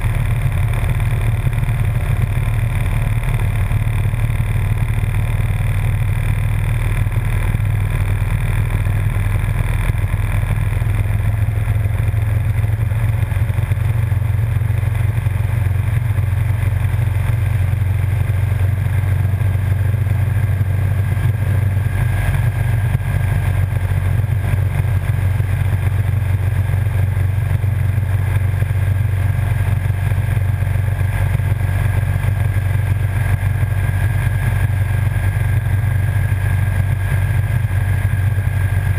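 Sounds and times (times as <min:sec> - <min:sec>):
motorcycle engine rumble: 0:00.0 - 0:38.9.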